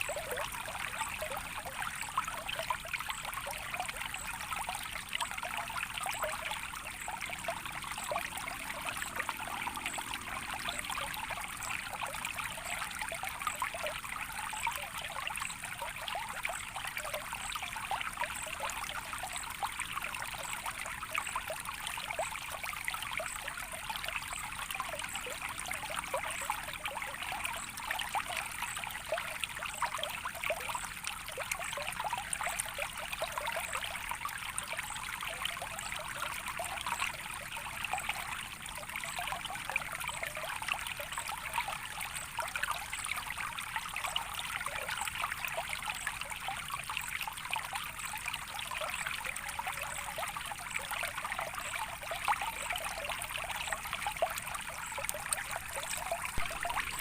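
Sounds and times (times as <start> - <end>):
stream trickling and babbling: 0.0 - 57.0.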